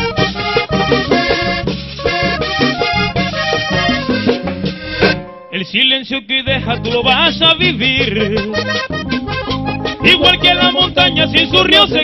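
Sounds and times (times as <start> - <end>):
accordion melody: 0.0 - 5.7, 6.5 - 12.0
vallenato band music: 0.0 - 5.7, 6.6 - 12.0
bass: 0.0 - 12.0.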